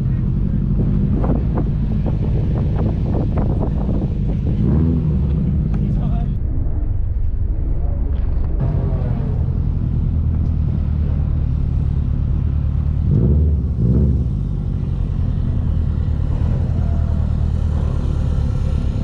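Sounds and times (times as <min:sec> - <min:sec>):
car engine revving: 0:00.0 - 0:06.4, 0:08.2 - 0:19.0.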